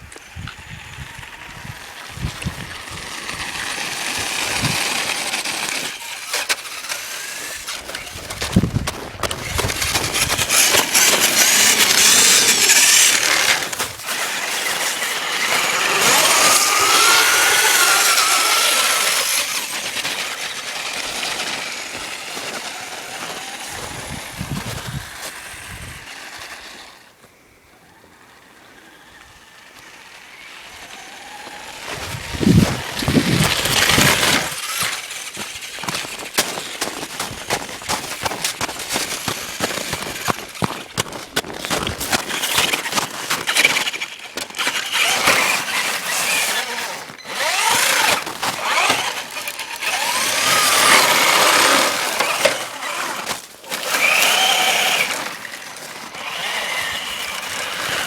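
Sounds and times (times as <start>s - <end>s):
truck motor revving: 0.1s - 27.2s, 28.4s - 58.0s.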